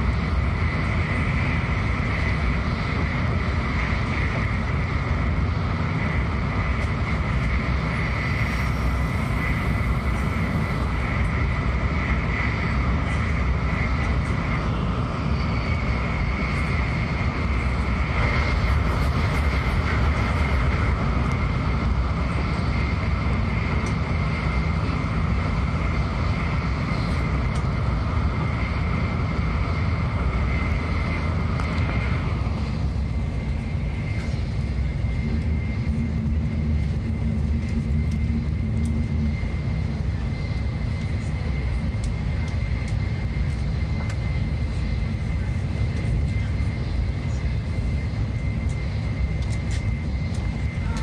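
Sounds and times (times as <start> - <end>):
faint high whine: 0.0 - 51.0
train interior low rumble: 0.0 - 51.0.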